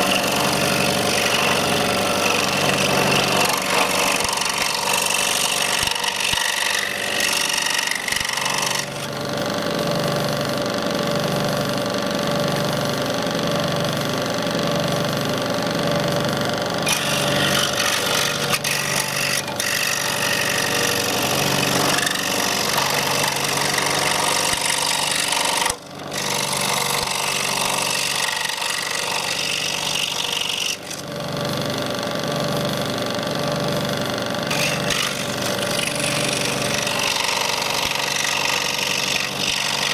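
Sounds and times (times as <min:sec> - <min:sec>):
scroll saw cutting nut shell: 0:00.0 - 0:09.2, 0:16.1 - 0:31.6, 0:32.4 - 0:39.9.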